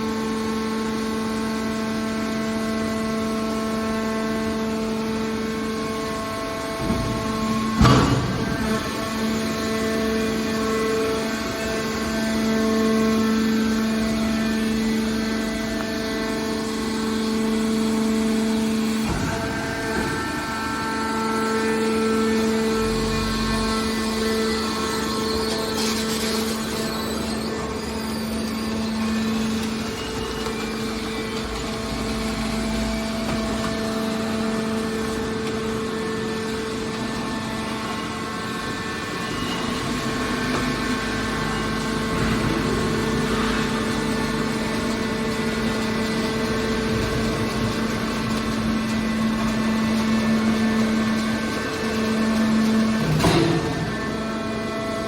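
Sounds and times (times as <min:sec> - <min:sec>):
hydraulic baler hum: 0:00.0 - 0:55.0.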